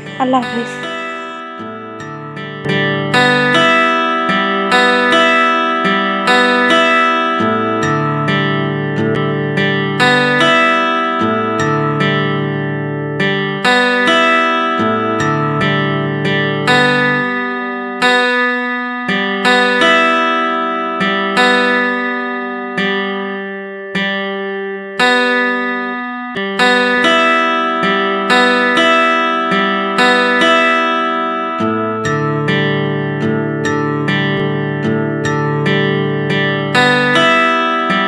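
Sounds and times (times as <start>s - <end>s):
acoustic guitar plucking: 0.0s - 38.0s.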